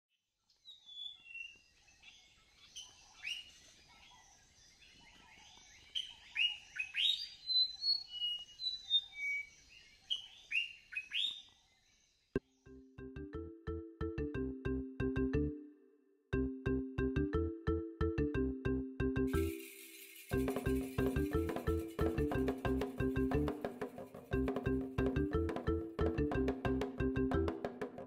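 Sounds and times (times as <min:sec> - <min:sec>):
songbirds chirping: 0:00.2 - 0:27.8.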